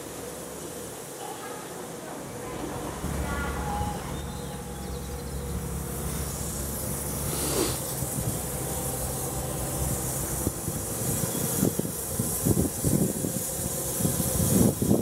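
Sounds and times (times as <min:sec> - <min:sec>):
steam hissing: 0:00.0 - 0:15.0
steam locomotive moving slowly: 0:00.0 - 0:15.0.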